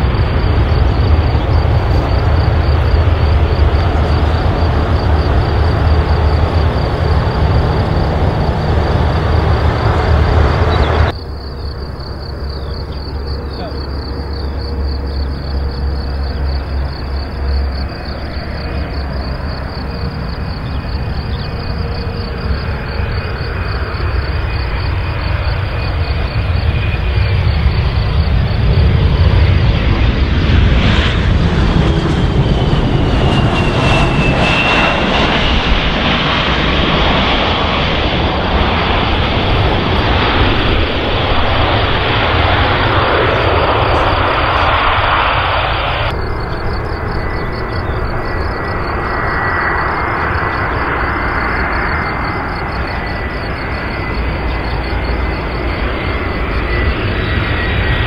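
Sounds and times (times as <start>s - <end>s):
airliner engines on approach: 0.0s - 58.0s
jet engine noise: 0.0s - 58.0s
jet engine whine: 0.0s - 58.0s.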